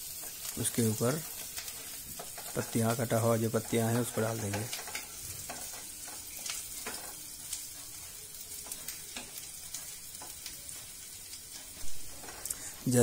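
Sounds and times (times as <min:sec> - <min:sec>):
food sizzling in hot oil: 0:00.0 - 0:13.0
wooden spatula stirring: 0:00.1 - 0:13.0.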